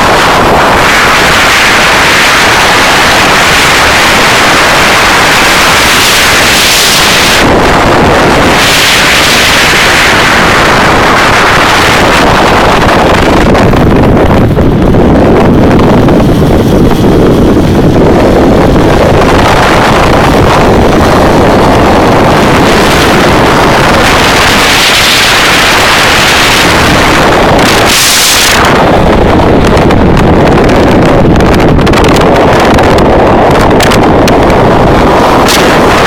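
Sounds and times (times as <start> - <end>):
motorcycle engine: 0.0 - 36.0
road noise: 0.0 - 36.0
wind buffeting microphone: 0.0 - 36.0.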